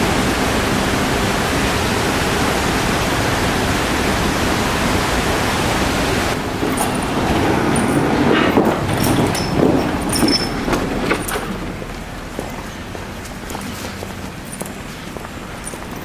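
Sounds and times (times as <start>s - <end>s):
steady rushing hiss: 0.0s - 16.0s
low uneven rumble: 0.1s - 16.0s.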